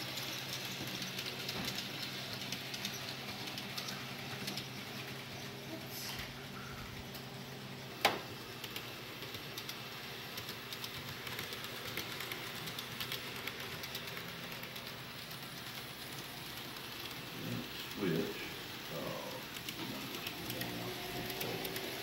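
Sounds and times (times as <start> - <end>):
model train wheels clicking on track: 0.0 - 5.8, 7.0 - 22.0
low room hum: 0.0 - 22.0.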